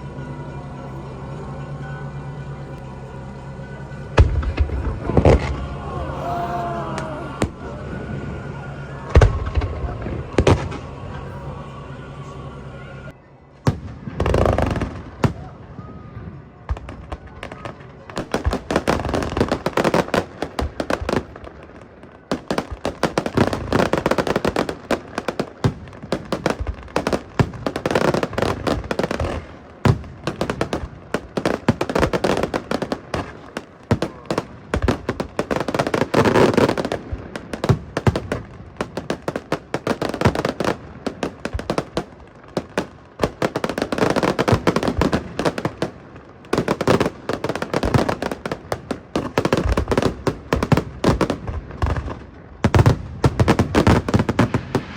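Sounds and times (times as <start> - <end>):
fireworks bangs and crackling: 2.8 - 11.9, 13.0 - 54.9.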